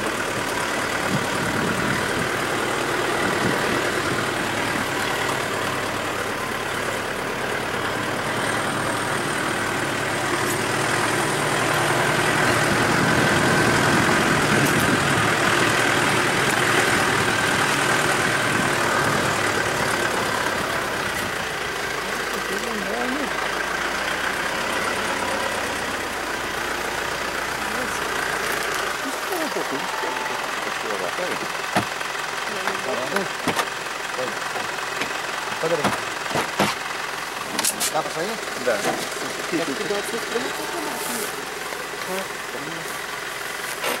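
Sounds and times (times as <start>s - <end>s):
road and wind noise: 0.0s - 44.0s
vehicle engine running: 0.0s - 44.0s.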